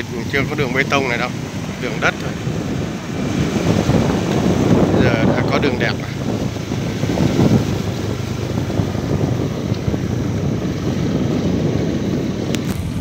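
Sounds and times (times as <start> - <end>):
motorbike engine running: 0.0 - 13.0
wind rushing over microphone: 0.0 - 13.0.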